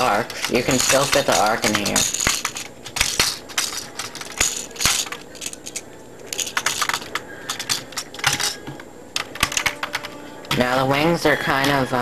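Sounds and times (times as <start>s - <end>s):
plastic bricks clicking and clattering: 0.0s - 10.7s.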